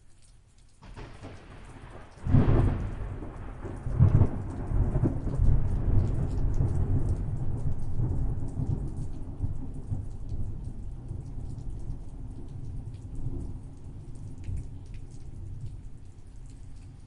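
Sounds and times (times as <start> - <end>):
steady rain: 0.0 - 17.0
thunder rumbling: 0.8 - 15.9.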